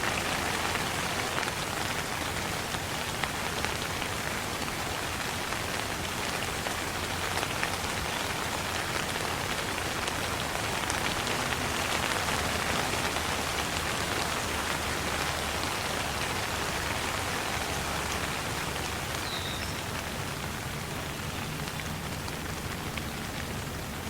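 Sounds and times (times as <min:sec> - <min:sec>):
rain falling: 0:00.0 - 0:24.0
raindrops ticking: 0:00.0 - 0:24.0.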